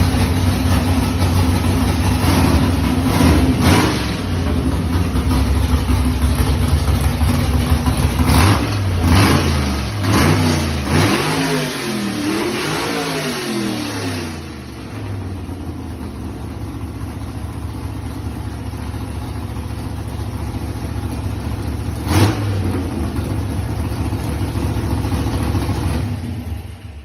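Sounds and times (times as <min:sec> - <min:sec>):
car engine idling: 0:00.0 - 0:11.4, 0:13.6 - 0:27.0.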